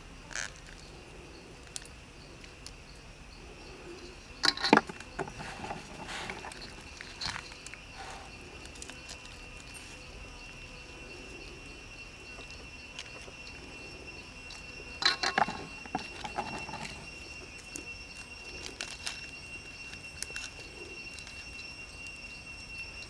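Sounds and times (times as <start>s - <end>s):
high insect trill: 0.0s - 23.0s.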